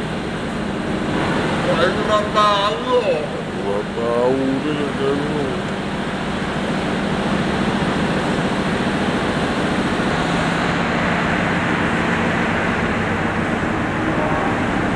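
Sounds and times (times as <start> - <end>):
machinery humming: 0.0 - 14.9.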